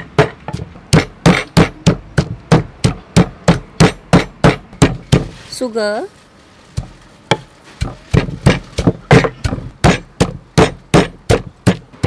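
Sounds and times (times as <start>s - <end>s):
pestle pounding in wooden mortar: 0.0s - 5.4s, 6.8s - 12.0s.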